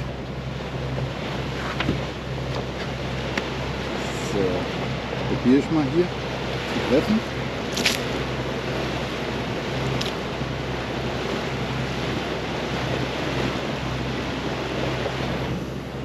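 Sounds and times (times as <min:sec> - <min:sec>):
motorboat engine drone: 0:00.0 - 0:16.0
water rushing along hull: 0:00.0 - 0:16.0.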